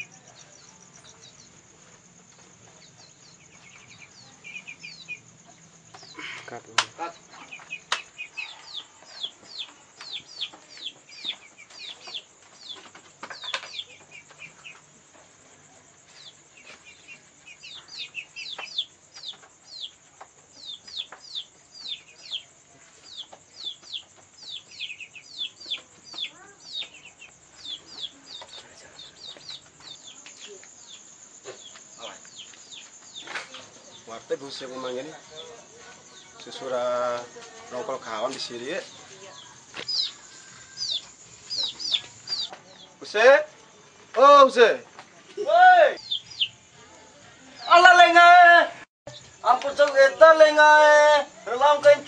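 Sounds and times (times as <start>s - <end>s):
chicks peeping: 0.0s - 15.4s, 16.0s - 43.5s, 45.9s - 46.9s.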